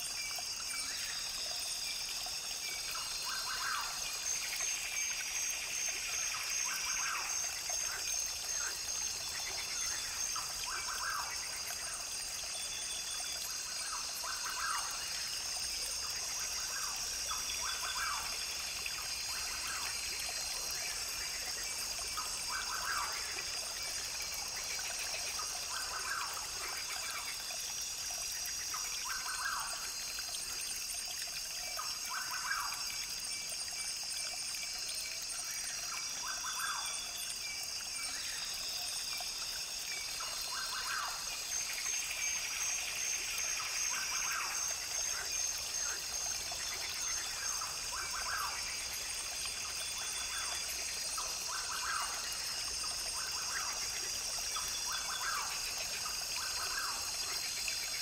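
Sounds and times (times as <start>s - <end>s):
brook trickling: 0.0s - 58.0s.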